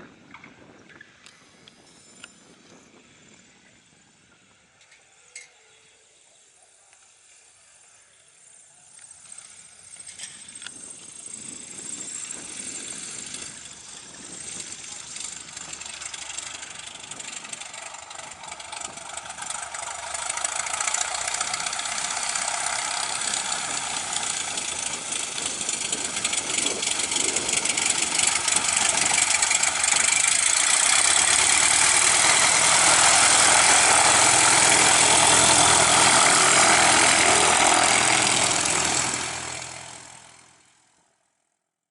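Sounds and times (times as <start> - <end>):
propeller aircraft engine: 6.1 - 41.4.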